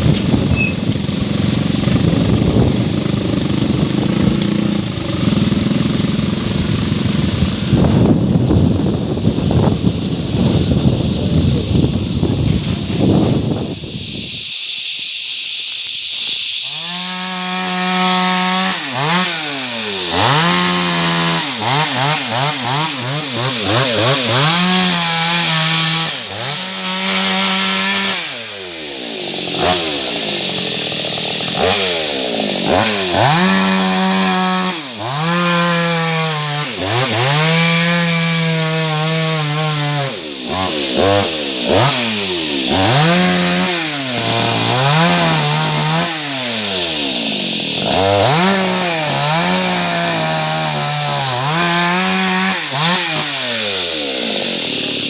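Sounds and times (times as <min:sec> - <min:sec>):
chainsaw revving and cutting wood: 0:00.0 - 0:09.7, 0:16.2 - 0:55.0.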